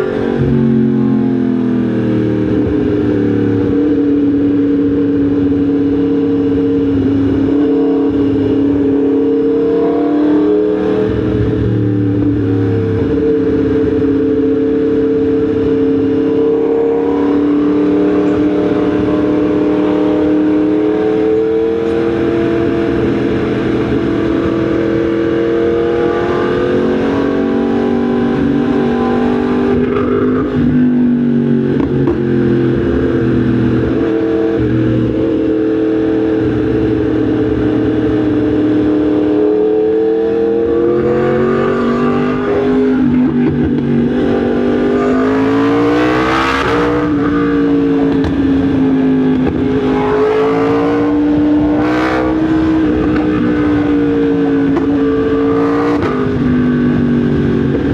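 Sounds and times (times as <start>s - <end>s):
motorcycle engine running: 0.0s - 45.7s, 46.3s - 57.9s.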